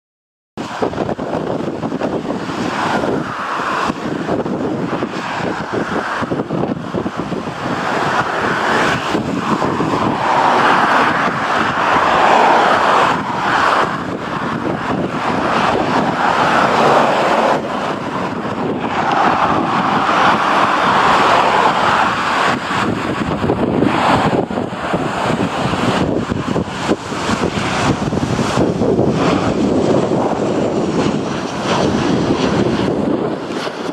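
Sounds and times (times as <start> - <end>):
strong wind buffeting microphone: 0.6 - 33.9.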